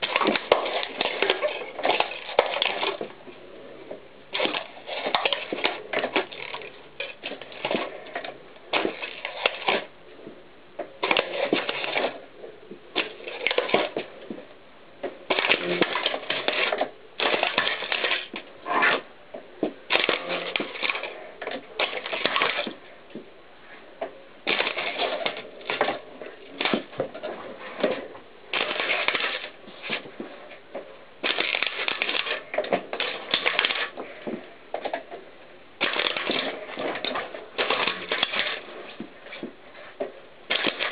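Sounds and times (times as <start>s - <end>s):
plastic cassettes cracking under tyre: 0.0s - 3.2s, 4.3s - 9.9s, 10.8s - 22.8s, 24.4s - 30.6s, 31.2s - 40.9s.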